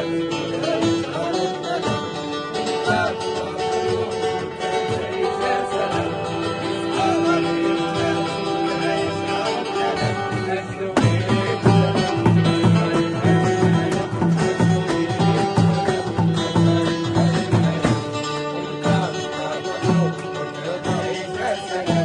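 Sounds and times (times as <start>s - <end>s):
person singing: 0.0s - 22.0s
plucked string music: 0.0s - 22.0s.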